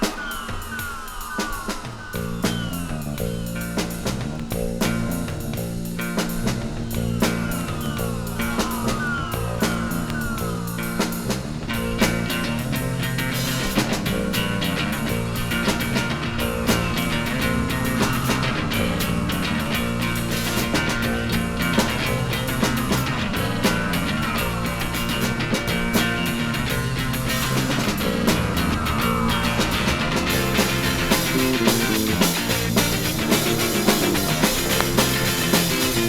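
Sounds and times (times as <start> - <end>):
garage rock band: 0.0 - 36.0
bass line: 2.2 - 36.0.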